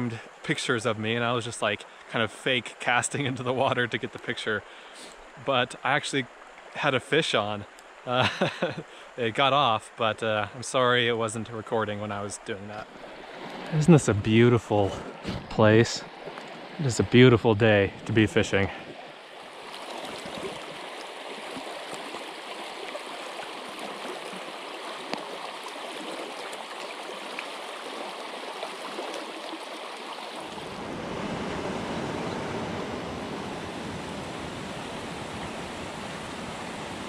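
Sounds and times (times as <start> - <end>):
creek running over rocks: 0.0 - 31.3.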